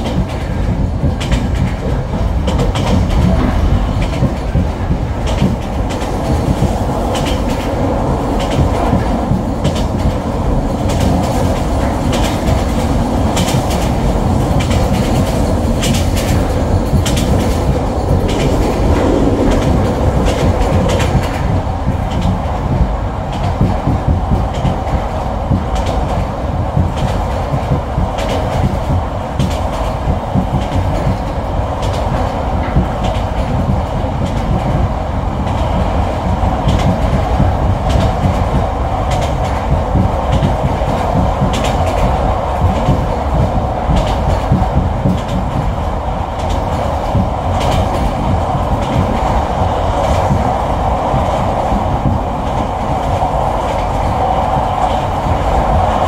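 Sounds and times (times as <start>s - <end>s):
track clicks and clacks: 0.0s - 56.0s
train wheels rumbling on rails: 0.0s - 56.0s.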